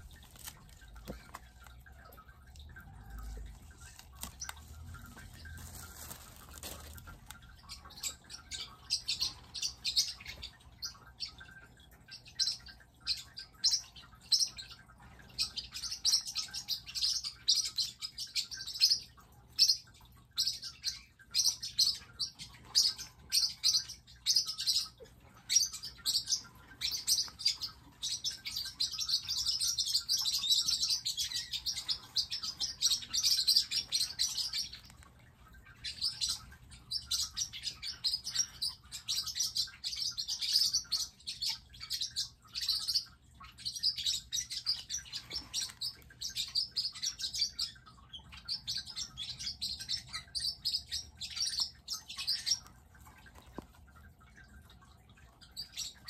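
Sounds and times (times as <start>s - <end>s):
parrotlets chirping and calling: 0.0s - 56.0s.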